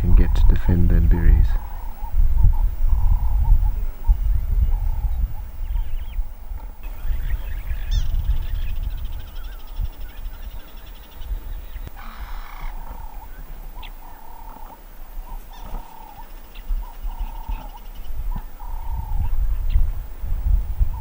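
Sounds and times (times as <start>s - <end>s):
frogs calling: 0.0s - 20.2s.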